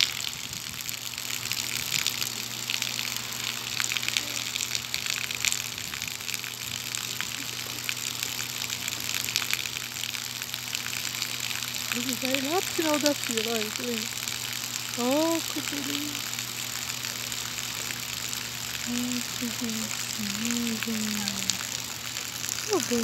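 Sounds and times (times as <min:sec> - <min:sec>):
gushing water: 0:00.0 - 0:23.0.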